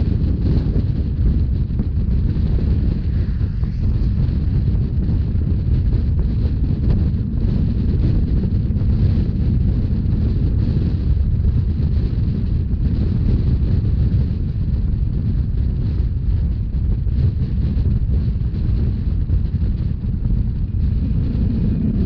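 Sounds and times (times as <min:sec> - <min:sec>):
train running rumble: 0:00.0 - 0:22.0
wind buffeting microphone: 0:00.0 - 0:22.0.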